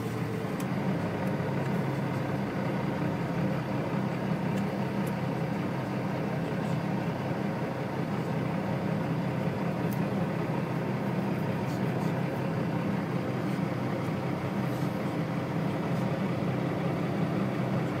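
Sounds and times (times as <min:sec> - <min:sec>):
vehicle engine and road rumble: 0:00.0 - 0:18.0.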